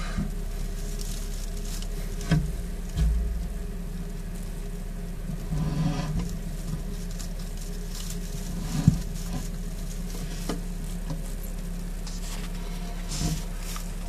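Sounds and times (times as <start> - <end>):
steady low hum: 0.0 - 14.0
crinkly rustling: 0.3 - 14.0.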